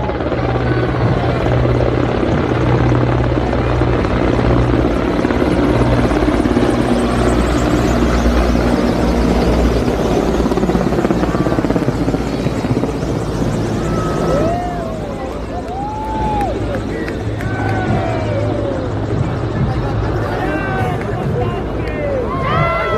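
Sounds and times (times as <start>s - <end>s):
helicopter rotor chop and drone: 0.0s - 22.9s.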